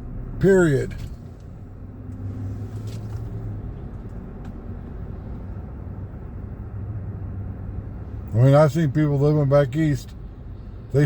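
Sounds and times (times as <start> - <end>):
car cabin road drone: 0.0 - 11.0.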